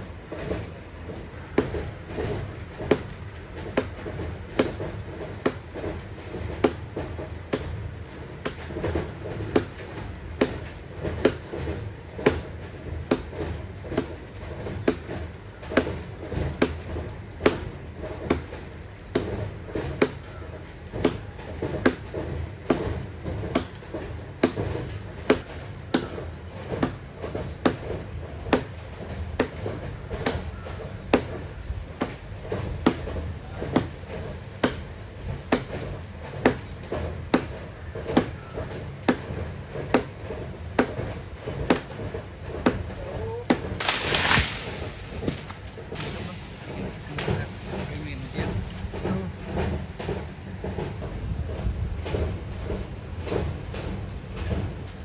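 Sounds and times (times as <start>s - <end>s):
hand tool striking wood: 1.5s - 6.0s, 6.6s - 6.8s, 8.4s - 11.6s, 12.2s - 12.5s, 13.1s - 14.2s, 14.8s - 20.2s, 21.0s - 50.9s.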